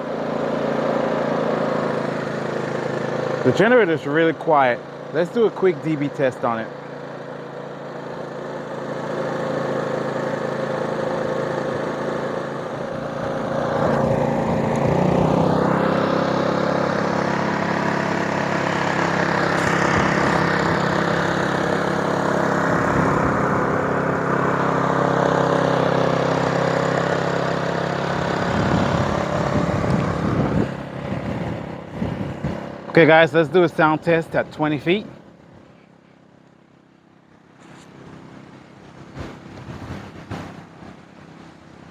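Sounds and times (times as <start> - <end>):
generator engine humming: 0.0 - 41.9.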